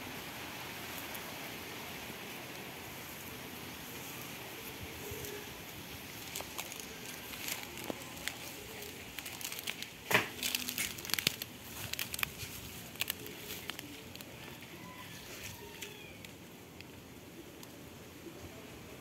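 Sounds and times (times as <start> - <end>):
leaves and twigs crunching underfoot: 0.1 - 17.0.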